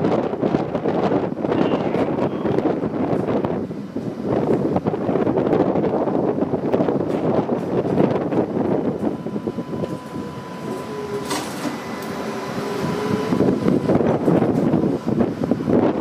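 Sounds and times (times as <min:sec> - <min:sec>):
streetcar whine: 0:00.0 - 0:16.0
wind buffeting microphone: 0:00.0 - 0:16.0.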